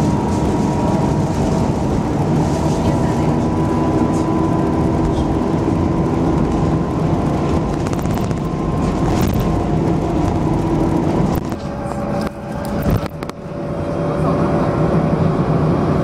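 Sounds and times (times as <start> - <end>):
constant hum: 0.0 - 16.0
engine and tyre rumble in cabin: 0.0 - 16.0.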